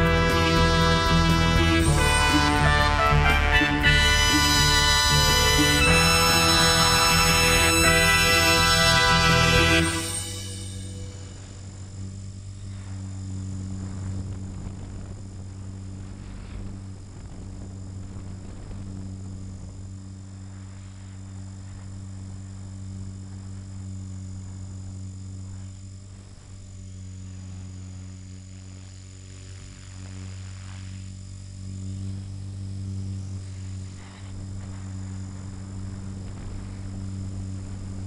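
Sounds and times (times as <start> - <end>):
helicopter rotor drone: 0.0 - 38.0
high motor whine: 0.0 - 38.0.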